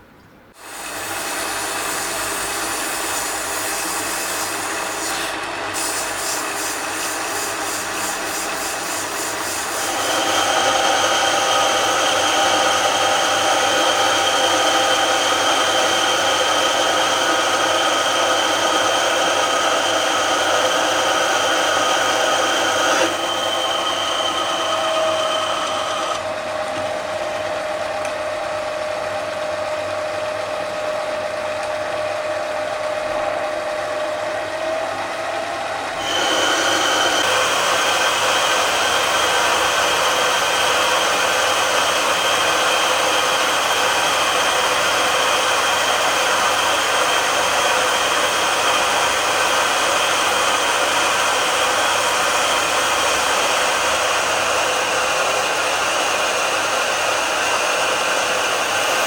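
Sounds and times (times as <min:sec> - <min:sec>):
lathe machine whine: 0:00.6 - 0:59.0.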